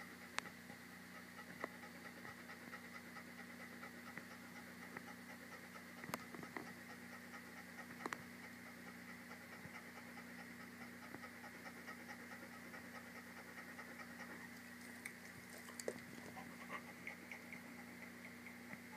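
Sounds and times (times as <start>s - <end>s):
dog panting: 0.0s - 18.9s.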